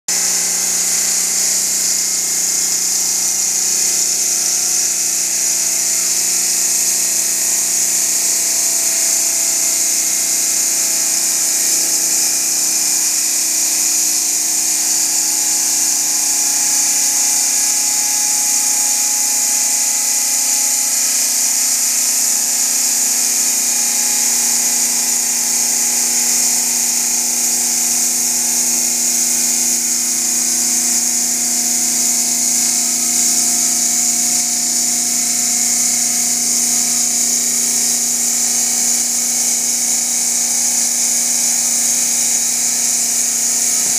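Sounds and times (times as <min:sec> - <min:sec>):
stone saw cutting: 0:00.1 - 0:43.9.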